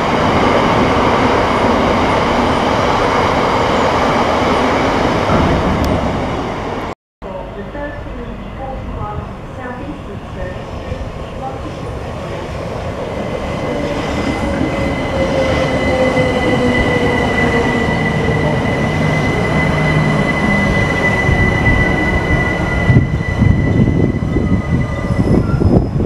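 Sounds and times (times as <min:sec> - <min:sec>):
electric train running past: 0:00.0 - 0:26.0.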